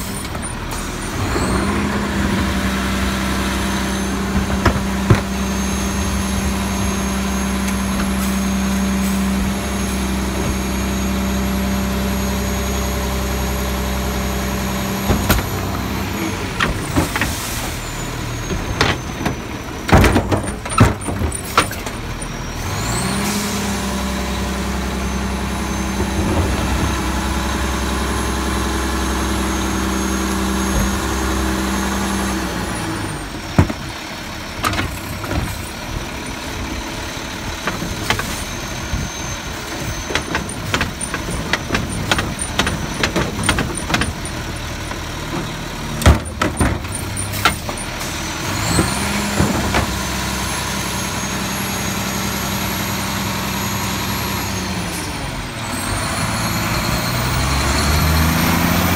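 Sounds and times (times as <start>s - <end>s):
cart dumping knocks and bangs: 0.0s - 11.6s, 12.2s - 36.7s, 37.4s - 51.7s
hydraulic whine: 0.0s - 58.9s
truck engine revving: 0.0s - 58.9s.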